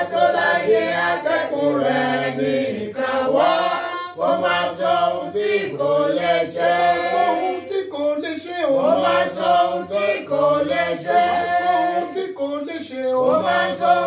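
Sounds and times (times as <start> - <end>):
group singing unaccompanied: 0.0 - 14.0.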